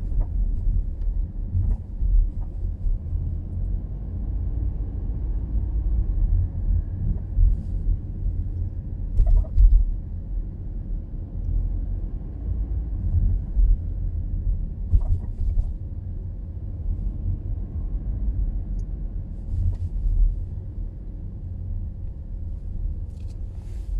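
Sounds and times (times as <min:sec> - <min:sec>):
low road rumble: 0:00.0 - 0:23.9.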